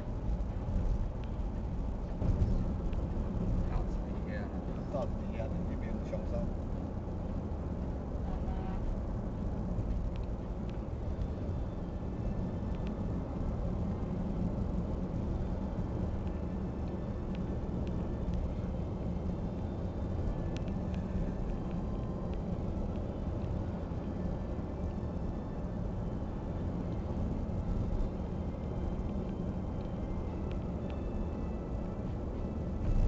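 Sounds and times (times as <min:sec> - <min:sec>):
vehicles rumbling: 0:00.0 - 0:33.0.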